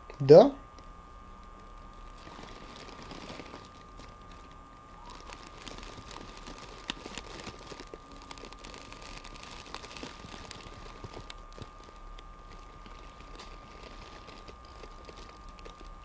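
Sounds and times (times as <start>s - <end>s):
faint high-pitched hum: 0.0s - 16.0s.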